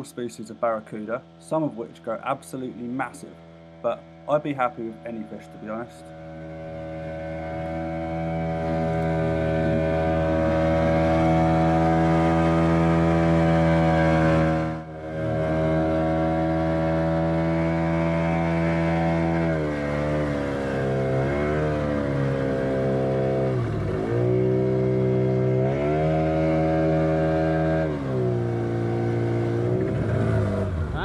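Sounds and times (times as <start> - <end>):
small boat engine running: 0.0 - 31.0.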